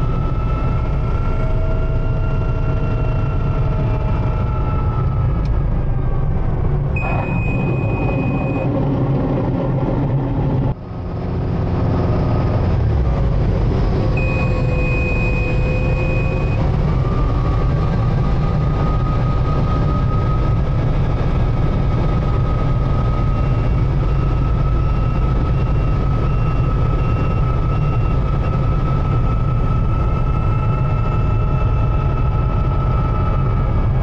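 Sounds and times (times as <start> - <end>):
helicopter rotor and engine drone: 0.0 - 34.0
steady whine: 0.0 - 34.0.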